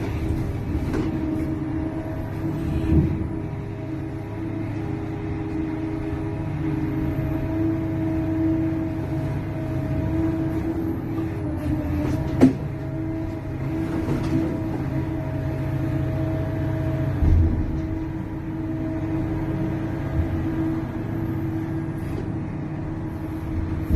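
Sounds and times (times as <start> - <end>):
excavator engine running: 0.0 - 23.9.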